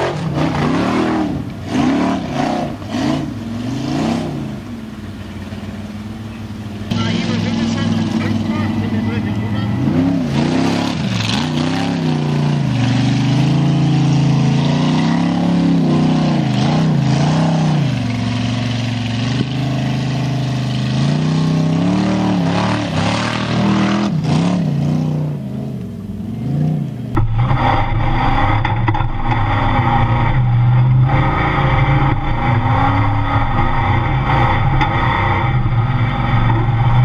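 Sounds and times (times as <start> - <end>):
buggy engine revving: 0.0 - 37.0
engine low rumble: 0.0 - 37.0.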